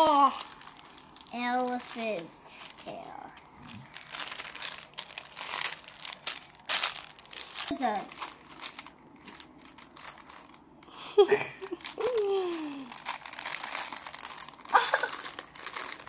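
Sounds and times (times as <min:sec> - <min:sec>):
cloth book pages crinkling: 0:00.0 - 0:16.0.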